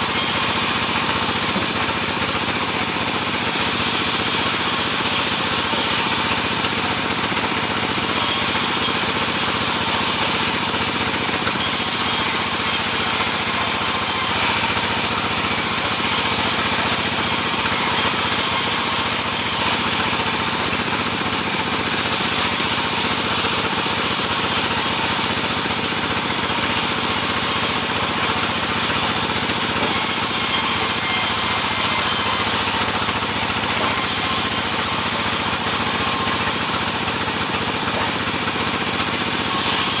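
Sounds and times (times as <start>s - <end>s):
sawmill saw cutting wood: 0.0s - 40.0s.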